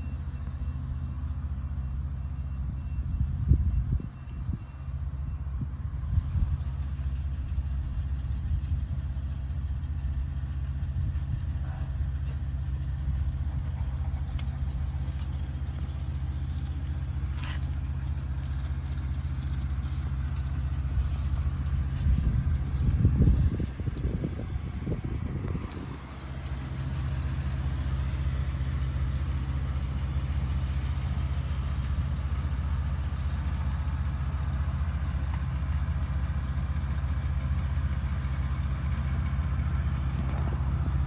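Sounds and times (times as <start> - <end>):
low engine-like drone: 0.0 - 41.0.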